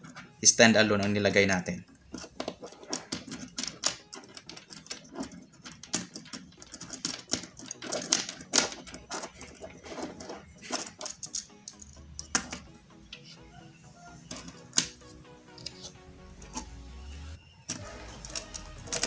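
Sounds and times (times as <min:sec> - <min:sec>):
plastic parts clicking and snapping: 0:00.0 - 0:13.5, 0:14.2 - 0:16.8, 0:17.6 - 0:19.0.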